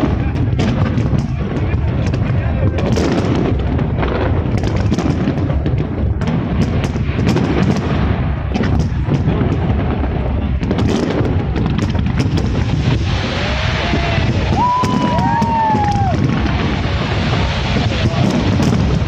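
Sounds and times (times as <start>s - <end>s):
crowd voices: 0.0s - 6.2s, 7.0s - 19.0s
fireworks bangs and crackles: 0.0s - 19.0s
low rumble: 0.0s - 19.0s.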